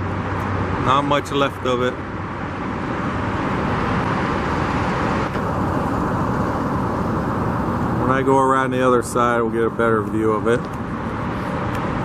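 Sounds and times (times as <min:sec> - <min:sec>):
passing cars rushing: 0:00.0 - 0:12.0.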